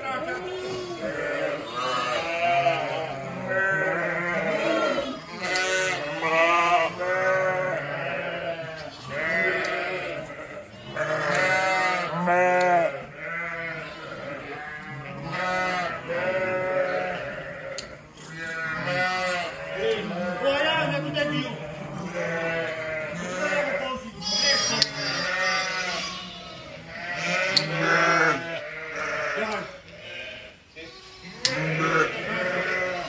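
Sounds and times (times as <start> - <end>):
sheep and lambs bleating: 0.0 - 33.0.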